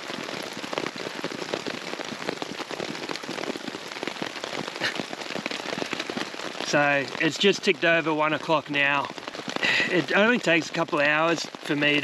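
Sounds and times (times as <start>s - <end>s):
heavy rain on a tarp: 0.0s - 12.0s.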